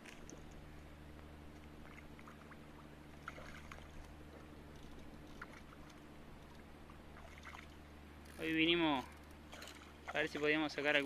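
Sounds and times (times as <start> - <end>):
steady low drone: 0.0 - 11.0
water lapping at rocky bank: 0.0 - 11.0.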